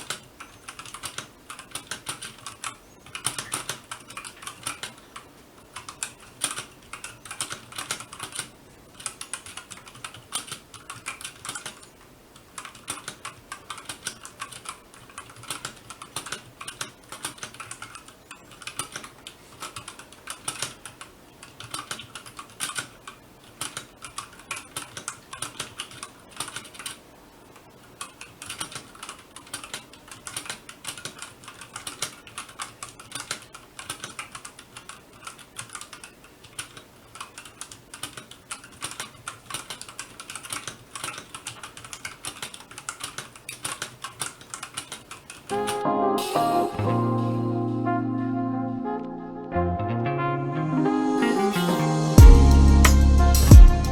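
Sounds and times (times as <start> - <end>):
mechanical keyboard typing: 0.0 - 27.1, 27.8 - 45.8.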